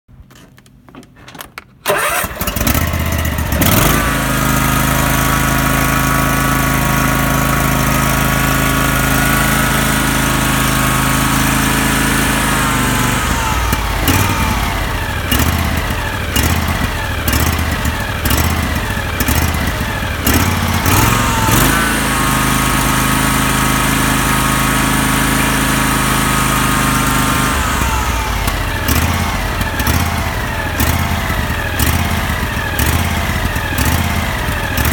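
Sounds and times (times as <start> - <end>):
lawn tractor engine starting: 0.2 - 34.9
engine idling with surging speed: 2.8 - 34.9.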